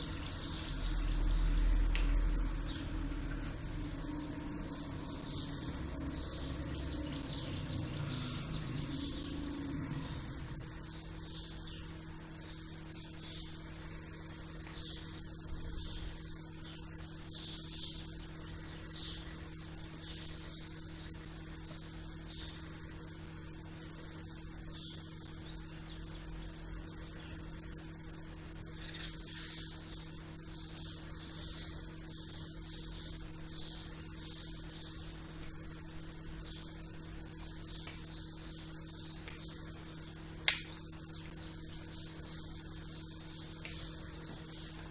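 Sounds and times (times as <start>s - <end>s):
small birds chirping: 0.0s - 44.9s
steady electrical hum: 0.0s - 44.9s.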